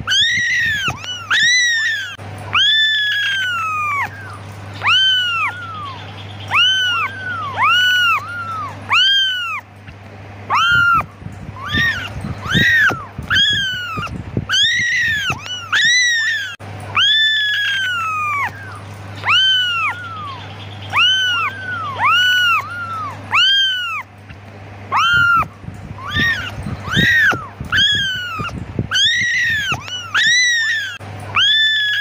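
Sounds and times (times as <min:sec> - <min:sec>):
kittens meowing: 0:00.0 - 0:09.7, 0:10.5 - 0:32.0.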